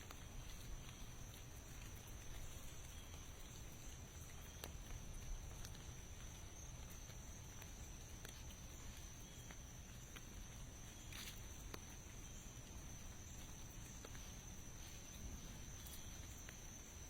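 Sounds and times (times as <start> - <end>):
raindrops ticking: 0.0 - 16.7
light rain hiss: 0.0 - 17.0.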